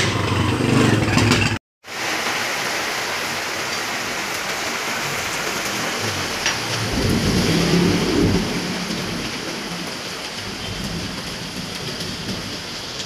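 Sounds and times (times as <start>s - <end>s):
heavy rain falling: 1.8s - 13.0s.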